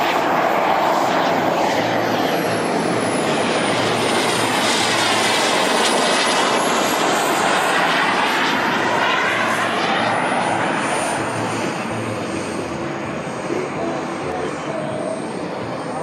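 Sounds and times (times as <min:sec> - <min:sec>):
model jet turbine engines: 0:00.0 - 0:16.0.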